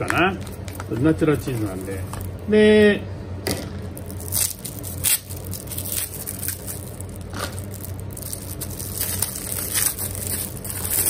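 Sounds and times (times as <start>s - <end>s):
plastic wrap crinkling: 0.3s - 2.4s, 4.0s - 11.0s.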